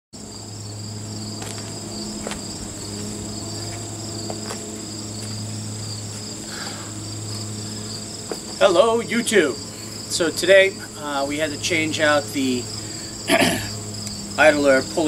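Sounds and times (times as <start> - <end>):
constant low hum: 0.2 - 15.0
insects trilling: 0.2 - 15.0.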